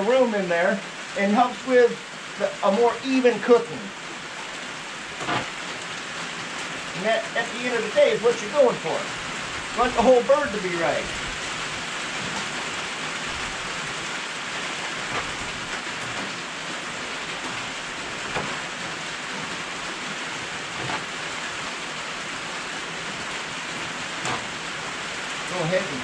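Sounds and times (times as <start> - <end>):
rain on a metal roof: 0.0 - 26.0.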